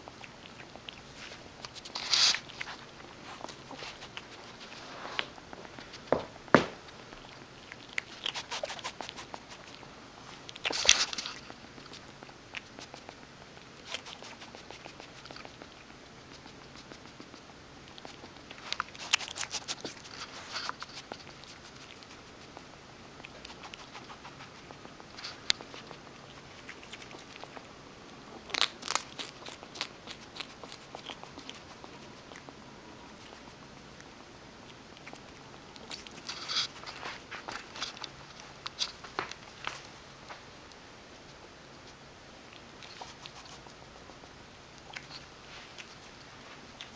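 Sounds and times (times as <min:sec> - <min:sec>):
skunk crunching crumbs: 0:00.0 - 0:46.9.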